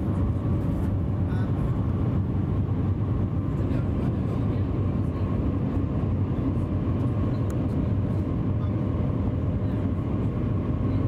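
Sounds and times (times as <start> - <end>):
train low rumble and rush: 0.0 - 11.0.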